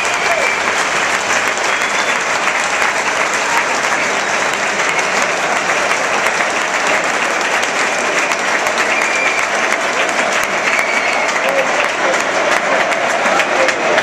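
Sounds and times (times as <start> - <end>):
stadium crowd applauding: 0.0 - 14.0.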